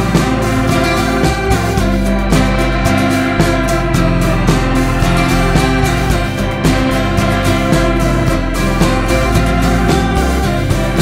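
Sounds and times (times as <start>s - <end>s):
background music with regular beat: 0.0s - 11.0s.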